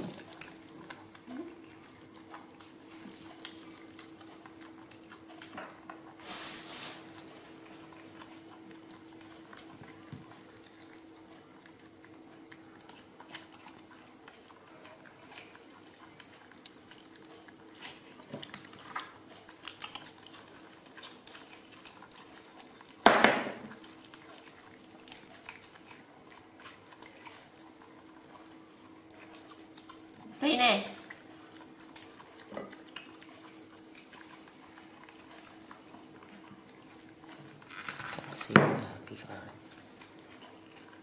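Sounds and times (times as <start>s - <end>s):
monkeys chewing fruit: 0.0s - 41.0s.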